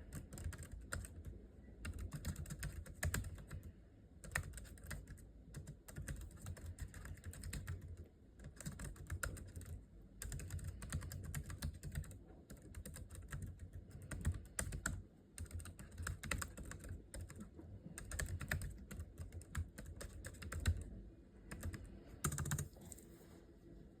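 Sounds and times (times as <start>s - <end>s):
typing on keyboard: 0.0s - 20.9s, 21.5s - 22.7s.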